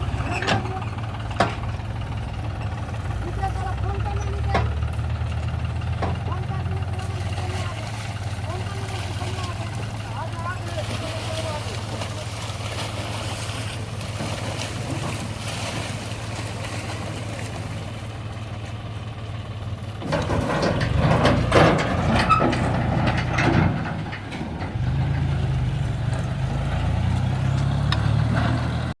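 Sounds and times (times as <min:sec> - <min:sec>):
machinery clattering and knocks: 0:00.0 - 0:18.8, 0:19.5 - 0:28.9
diesel engine running: 0:00.0 - 0:29.0.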